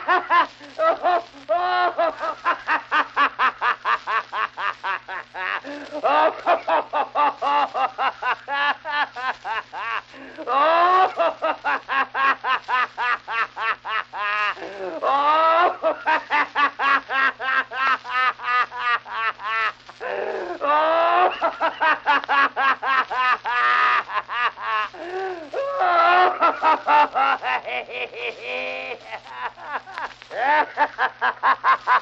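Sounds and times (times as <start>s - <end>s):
man laughing hard: 0.0s - 32.0s.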